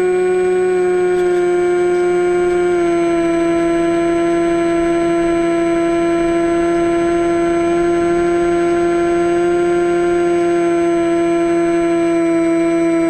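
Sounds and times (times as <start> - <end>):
electric motor and propeller drone: 0.0 - 13.0.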